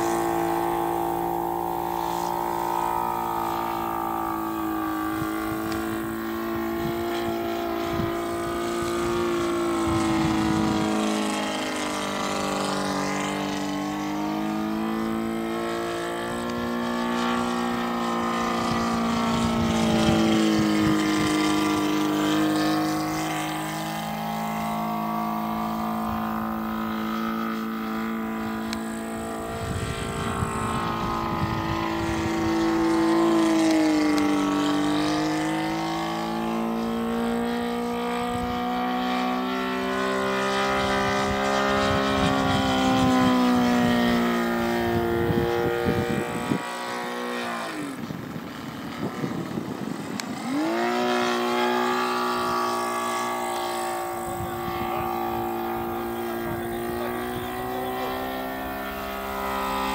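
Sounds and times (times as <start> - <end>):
model plane engine in flight: 0.0 - 59.9.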